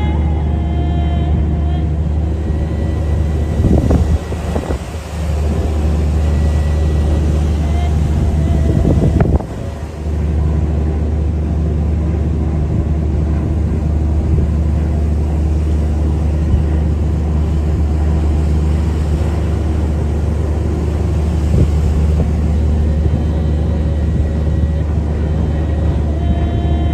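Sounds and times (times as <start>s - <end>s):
rushing noise: 0.0s - 26.9s
ship engine low hum: 0.0s - 26.9s.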